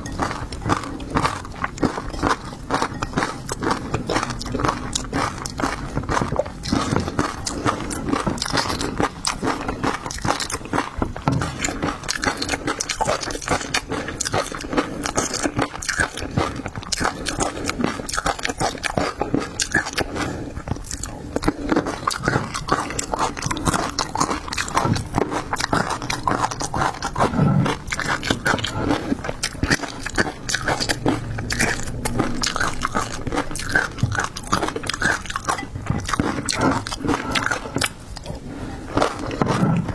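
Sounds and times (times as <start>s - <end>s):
biting and chewing seafood: 0.0s - 39.9s.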